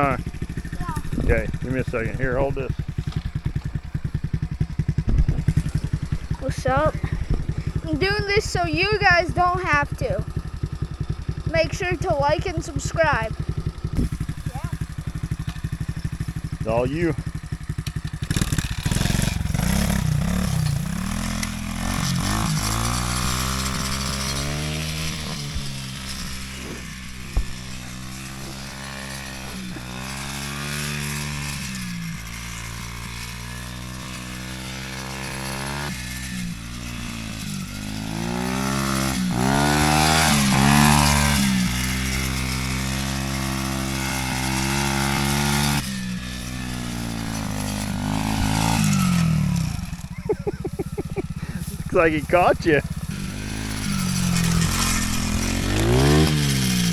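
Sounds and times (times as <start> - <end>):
off-road vehicle engine revving: 0.0 - 56.9.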